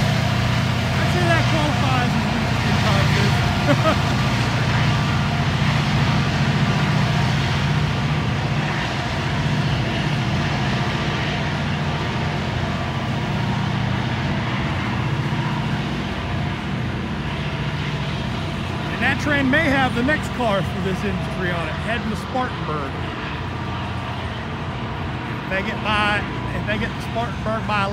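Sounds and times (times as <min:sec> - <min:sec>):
engine running steadily: 0:00.0 - 0:27.9.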